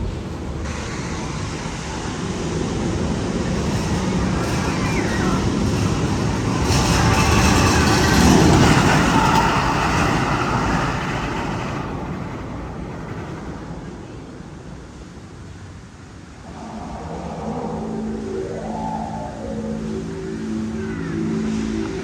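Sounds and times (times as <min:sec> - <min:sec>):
roller coaster rushing rumble: 0:00.0 - 0:22.0
steady tones: 0:00.4 - 0:22.0.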